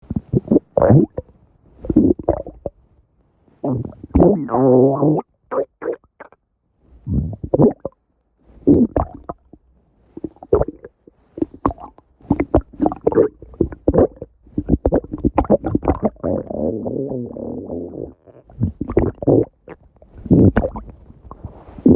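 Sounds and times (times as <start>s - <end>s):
stomach growling: 0.0s - 2.8s, 3.6s - 6.4s, 7.0s - 8.0s, 8.6s - 9.6s, 10.2s - 21.9s.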